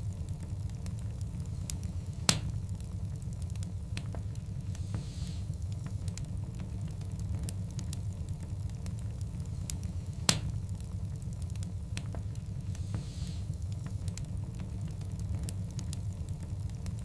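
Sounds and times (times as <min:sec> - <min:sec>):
fire snaps and pops: 0:00.0 - 0:17.0
wood fire crackling: 0:00.0 - 0:17.0.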